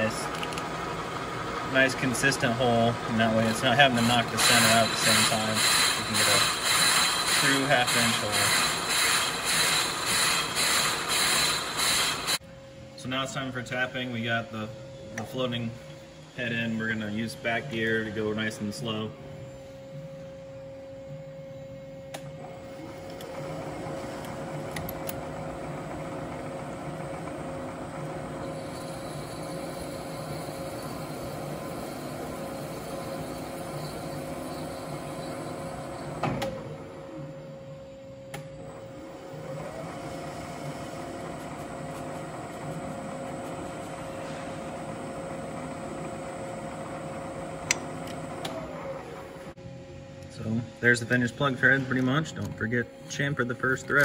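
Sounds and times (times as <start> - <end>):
milling machine motor whine: 0.0 - 54.0.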